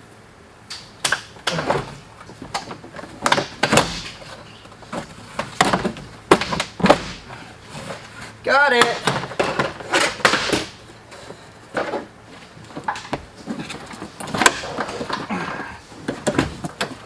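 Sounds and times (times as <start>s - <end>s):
knocks scrapes and rustling: 0.7s - 17.0s.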